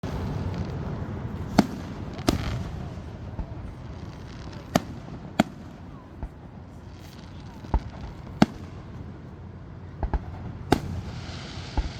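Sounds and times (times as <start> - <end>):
fireworks bangs: 0.0 - 11.9
steady low rumble: 0.0 - 11.9.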